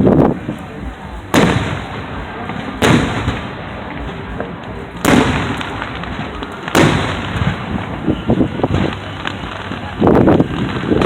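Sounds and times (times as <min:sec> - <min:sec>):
steady background noise: 0:00.0 - 0:11.0
firework shells bursting: 0:01.2 - 0:11.0.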